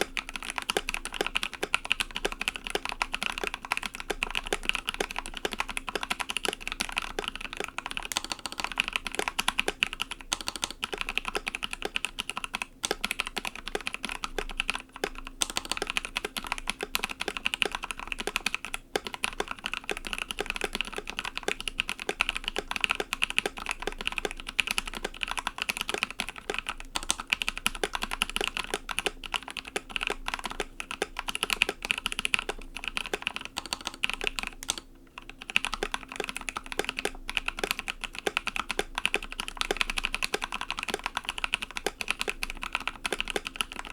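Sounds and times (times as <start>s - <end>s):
fast typing on mechanical keyboard: 0.0s - 43.9s.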